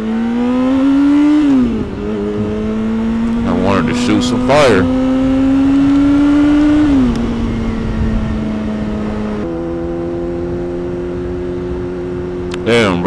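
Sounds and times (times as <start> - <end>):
motorcycle engine: 0.0 - 13.0
wind and road rush: 0.0 - 13.0.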